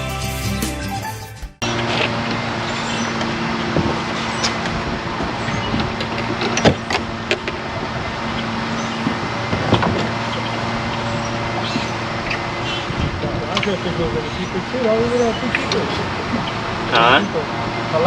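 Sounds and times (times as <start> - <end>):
outboard motor running: 1.6 - 18.0.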